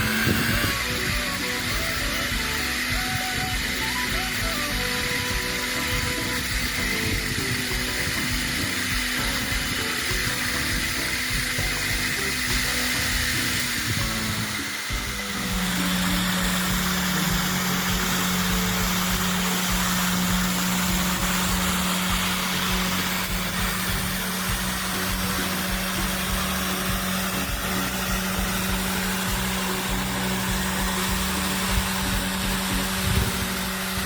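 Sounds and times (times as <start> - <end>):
machine motor humming: 0.0 - 34.0.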